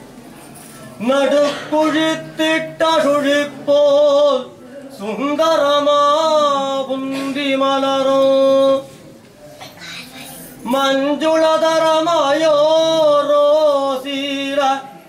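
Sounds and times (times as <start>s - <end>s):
man chanting: 1.0s - 8.9s, 10.6s - 15.0s.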